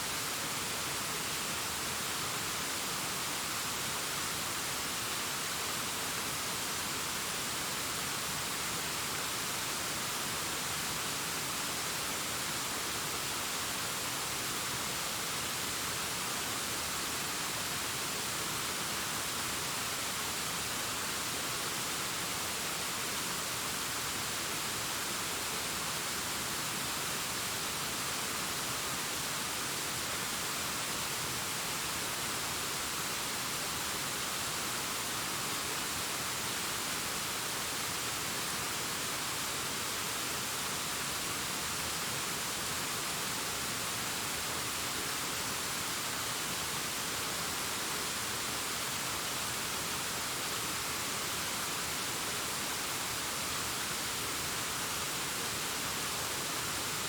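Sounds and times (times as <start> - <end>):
distant waterfall rushing: 0.0 - 57.0.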